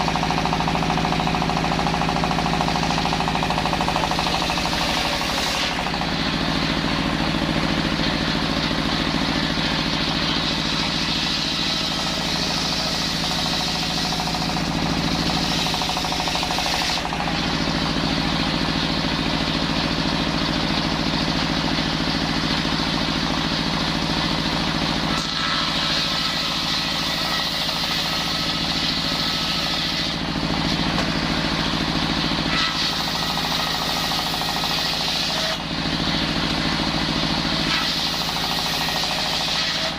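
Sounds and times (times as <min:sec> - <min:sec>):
circular saw cutting timber: 0:00.0 - 0:39.9.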